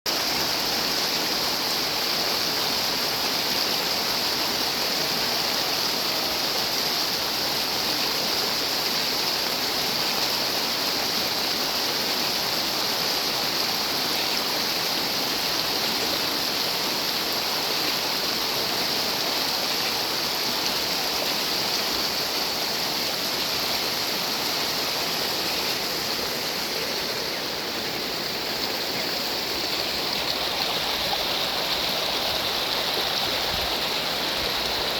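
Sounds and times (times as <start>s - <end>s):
heavy rain hissing: 0.1s - 34.9s.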